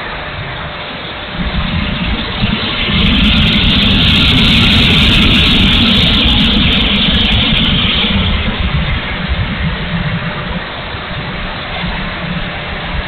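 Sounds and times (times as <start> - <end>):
electric ducted fan rushing: 0.0 - 13.0
wind buffeting rumble: 0.0 - 13.0.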